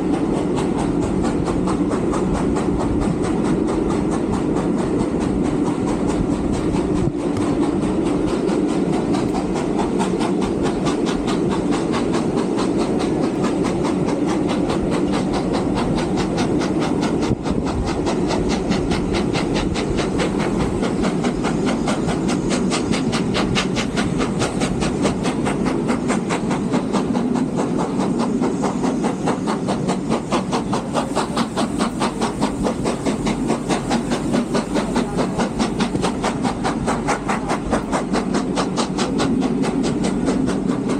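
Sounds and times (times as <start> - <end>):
carriages rumbling on rails: 0.0 - 40.9
steam locomotive chuffing: 0.0 - 40.9.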